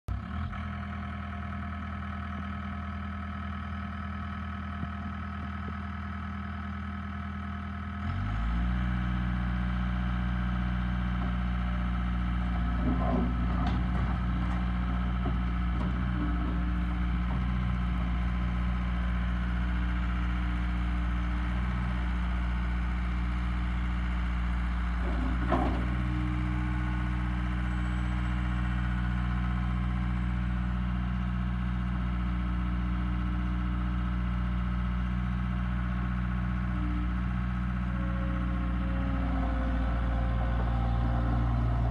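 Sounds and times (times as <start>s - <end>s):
skid steer diesel engine: 0.1s - 41.9s.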